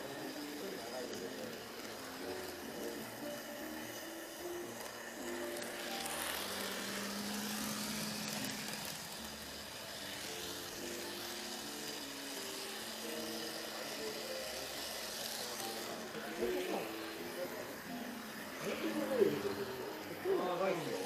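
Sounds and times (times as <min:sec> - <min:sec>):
model train wheels rattling on rail: 0:00.0 - 0:21.0.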